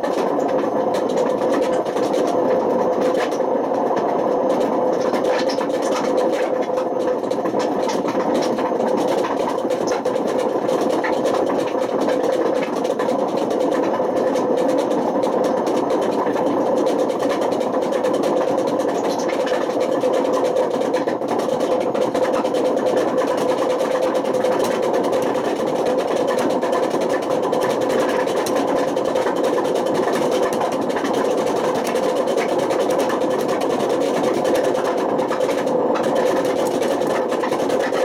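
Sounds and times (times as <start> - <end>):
washing machine running: 0.0 - 38.0.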